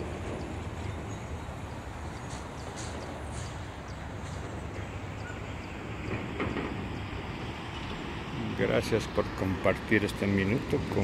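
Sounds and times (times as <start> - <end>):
distant city traffic: 0.0 - 11.0.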